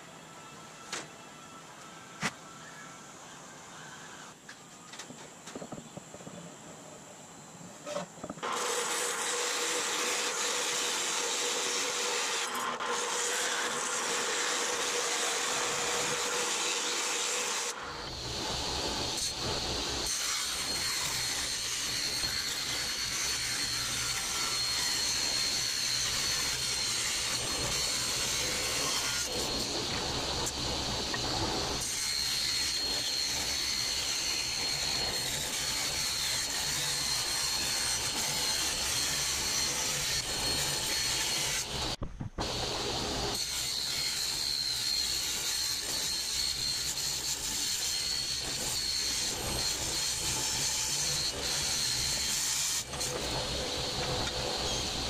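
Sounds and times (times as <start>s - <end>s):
table saw cutting metal: 7.9s - 55.0s.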